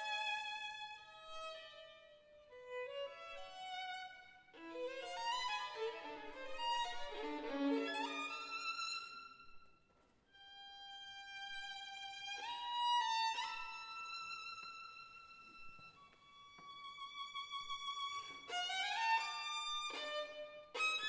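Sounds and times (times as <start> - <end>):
violin played with bow: 0.0 - 9.7, 10.3 - 21.0.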